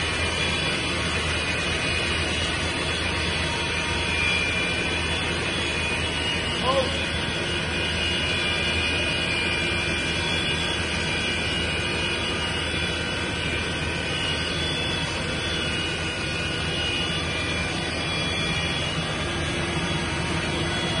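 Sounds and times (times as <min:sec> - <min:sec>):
factory machinery roaring and whining: 0:00.0 - 0:21.0.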